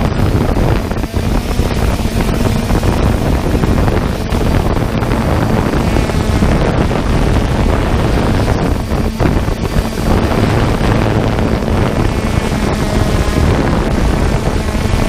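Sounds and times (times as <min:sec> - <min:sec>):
drone propellers humming: 0:00.0 - 0:15.0
wind on microphone: 0:00.0 - 0:15.0.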